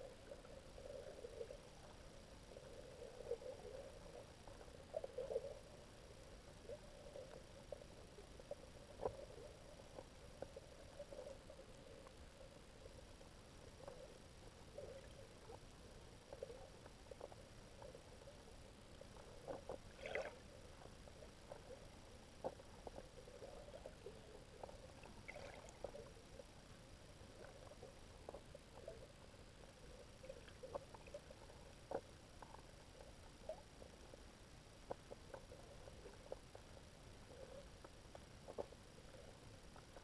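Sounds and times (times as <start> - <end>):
low muffled underwater hum: 0.0 - 40.0.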